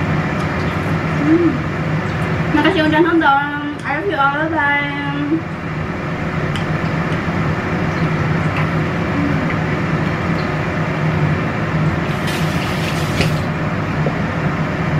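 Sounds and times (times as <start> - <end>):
low hum: 0.0 - 14.9
steady rumbling: 0.0 - 14.9.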